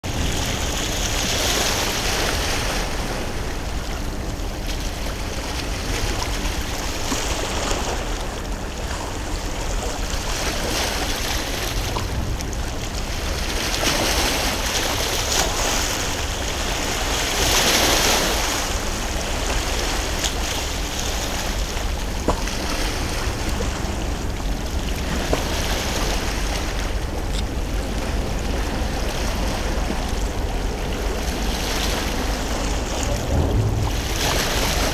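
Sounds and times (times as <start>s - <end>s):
steady low rumble: 0.0s - 17.1s, 18.2s - 34.9s
water splashing against a quay: 0.0s - 34.9s.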